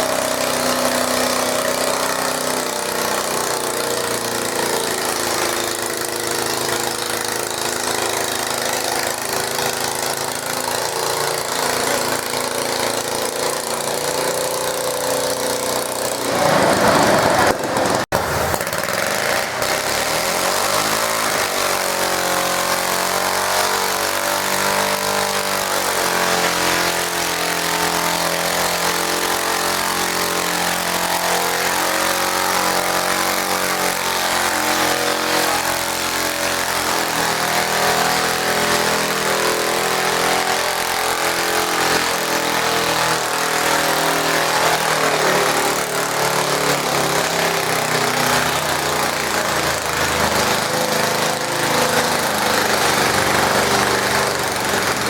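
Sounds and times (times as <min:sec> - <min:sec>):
tractor engine running hard: 0:00.0 - 0:55.0.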